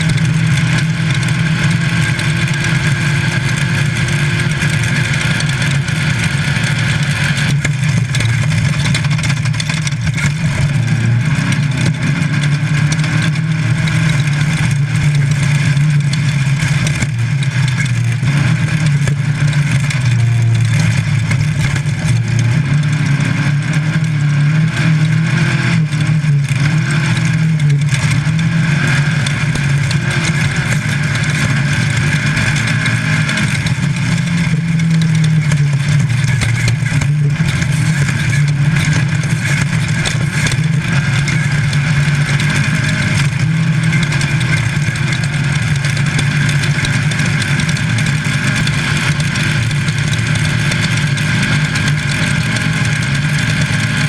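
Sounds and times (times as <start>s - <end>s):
car engine at high revs: 0.0s - 54.0s
road and body noise: 0.0s - 54.0s.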